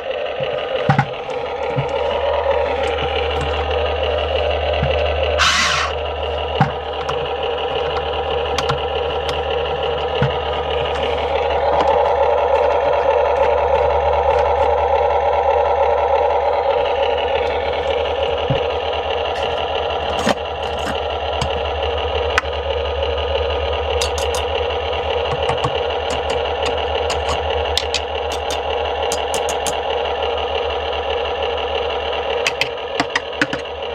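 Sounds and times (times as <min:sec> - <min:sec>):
gears and tracks clattering: 0:00.0 - 0:33.9
toy excavator motors whirring: 0:00.0 - 0:33.9.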